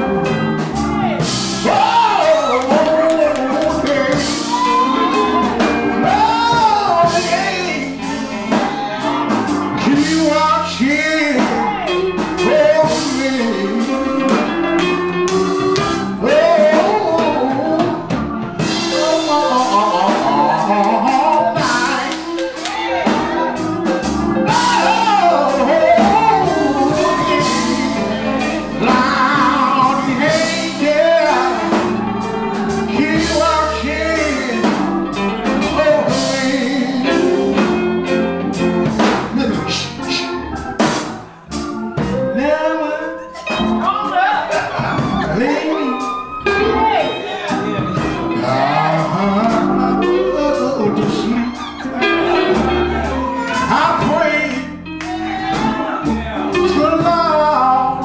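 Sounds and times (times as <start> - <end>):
man singing gospel into microphone: 0.0 - 40.5, 42.0 - 58.0
drum kit beat: 0.0 - 58.0.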